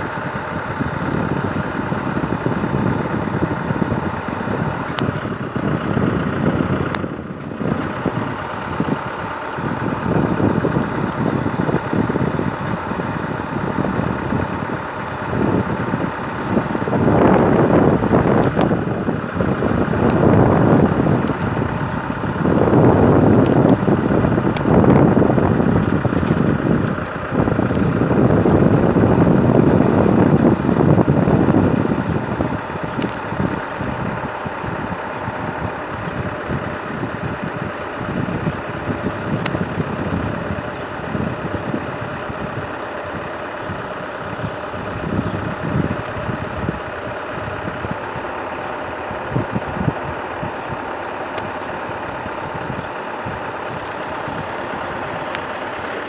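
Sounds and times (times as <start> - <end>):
crane truck engine idling: 0.0 - 56.0.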